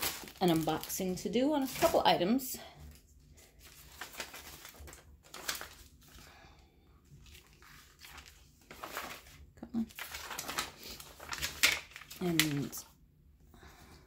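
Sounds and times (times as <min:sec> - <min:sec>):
paper rustling and crinkling: 0:00.0 - 0:12.9.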